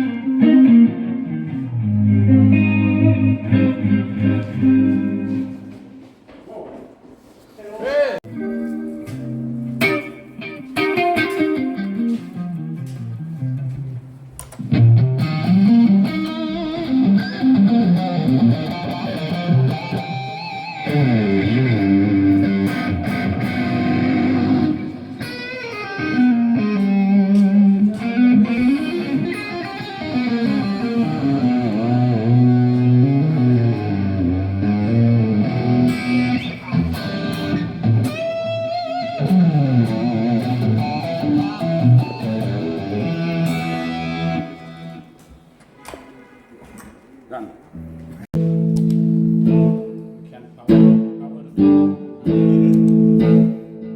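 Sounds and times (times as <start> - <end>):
electric guitar lead lines: 0.0 - 6.1, 8.3 - 45.4, 47.8 - 53.9.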